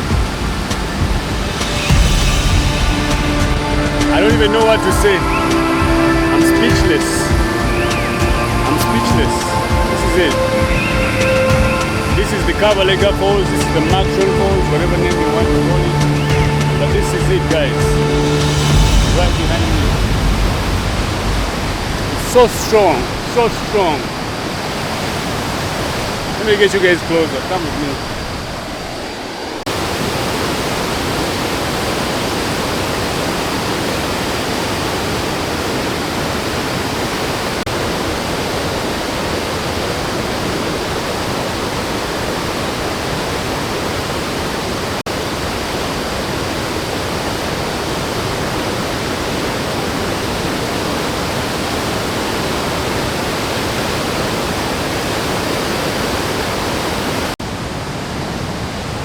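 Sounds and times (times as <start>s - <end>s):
rush of falling water: 0.0s - 59.0s.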